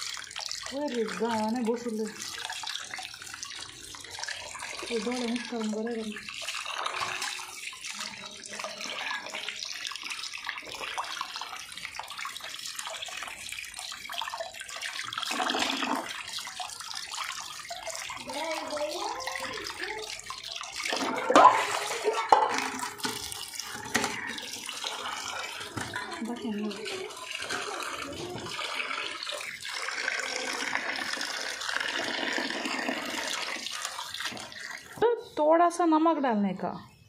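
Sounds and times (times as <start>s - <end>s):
tap water splashing into pot: 0.0s - 35.0s.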